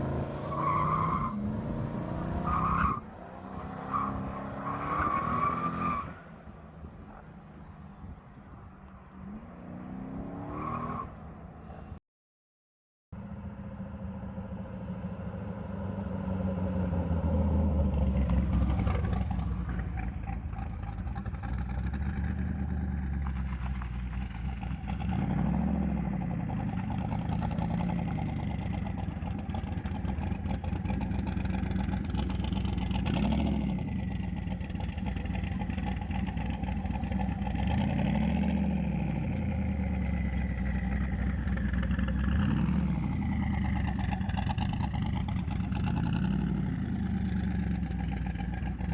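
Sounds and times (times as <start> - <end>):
pickup engine revving: 0.0 - 5.6, 15.3 - 48.9.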